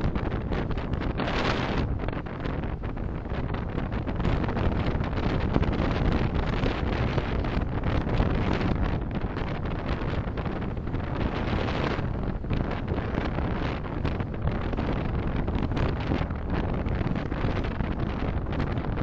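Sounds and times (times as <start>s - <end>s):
car road and wind rumble: 0.0s - 19.0s.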